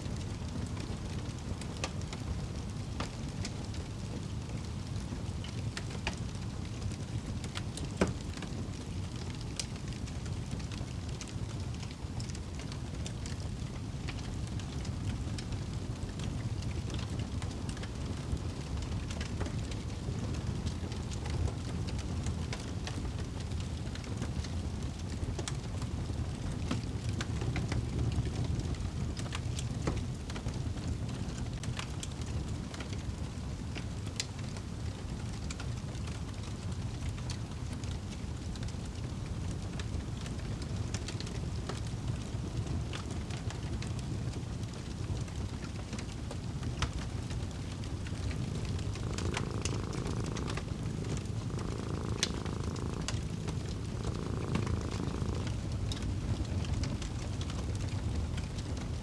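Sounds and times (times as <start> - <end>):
low rumble of burning fire: 0.0 - 59.0
fire crackling and popping: 0.1 - 59.0.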